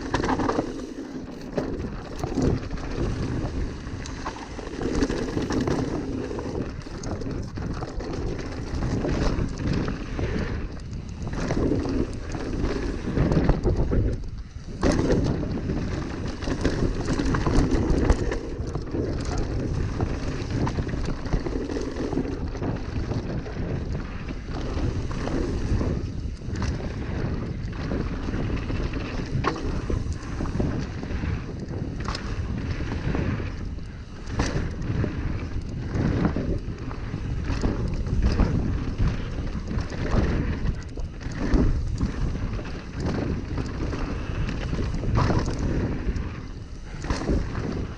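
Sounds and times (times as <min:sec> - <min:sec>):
bike knocks and rattles: 0:00.0 - 0:47.9
tyre noise: 0:00.0 - 0:47.9
wind buffeting microphone: 0:00.0 - 0:47.9.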